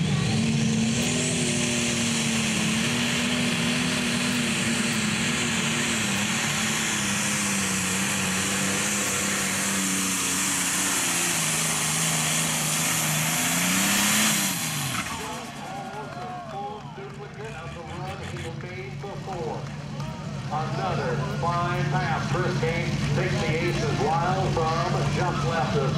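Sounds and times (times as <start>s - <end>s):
diesel engine running under load: 0.0s - 25.9s.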